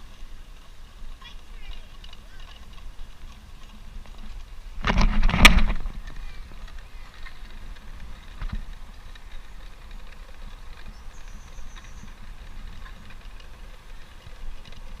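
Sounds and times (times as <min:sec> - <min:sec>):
bicycle tyres rumbling: 0:00.0 - 0:15.0
light clicks and rattles: 0:00.1 - 0:15.0.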